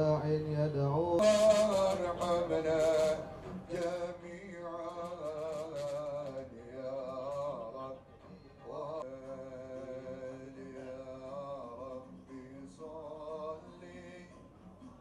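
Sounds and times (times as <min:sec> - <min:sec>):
man singing devotional song: 0:00.0 - 0:14.5.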